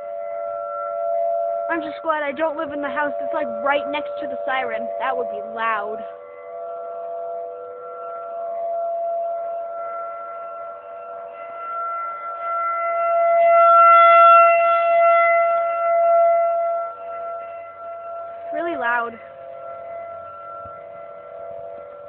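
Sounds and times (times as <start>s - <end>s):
tornado warning siren: 0.0s - 22.0s.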